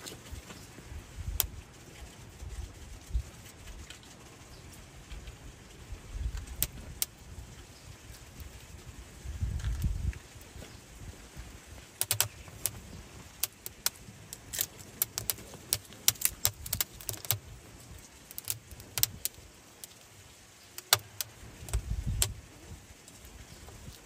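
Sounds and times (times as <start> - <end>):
kindling crackling and popping: 0.0 - 24.0.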